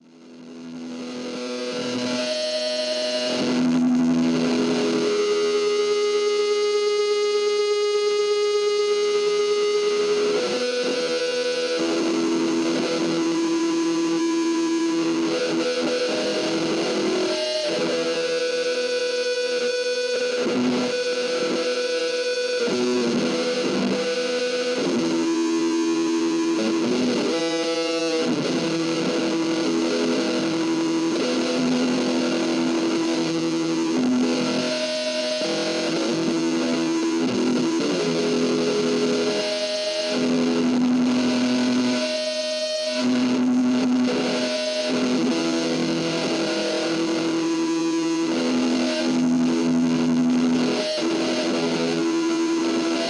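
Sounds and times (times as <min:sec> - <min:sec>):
electric guitar feedback drone: 0:00.0 - 0:53.0.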